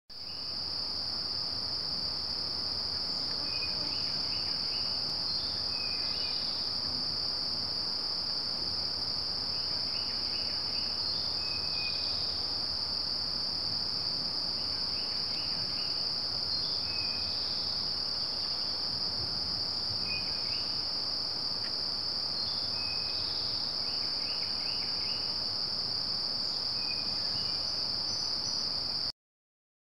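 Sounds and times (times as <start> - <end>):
insect chirps: 0.1 - 29.1
insect chorus drone: 0.1 - 29.1.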